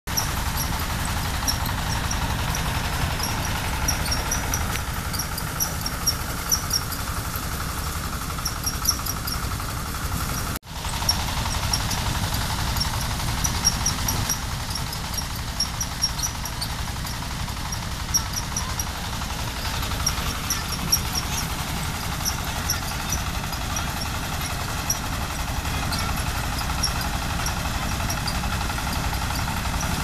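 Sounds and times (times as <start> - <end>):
threshing machine engine running: 0.1 - 30.0.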